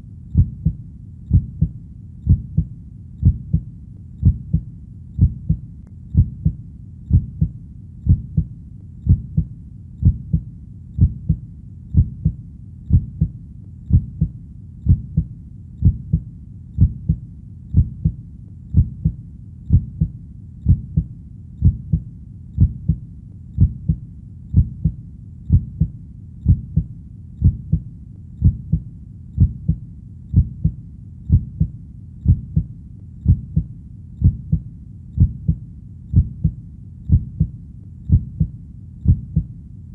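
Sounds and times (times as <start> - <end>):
faint low hum: 0.0 - 39.9
heartbeat thumps: 0.3 - 23.0, 23.6 - 39.6.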